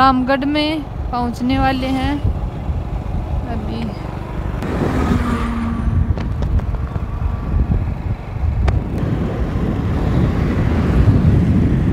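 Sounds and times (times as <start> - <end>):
road and engine rumble: 0.0 - 11.9
wind buffeting microphone: 0.0 - 11.9.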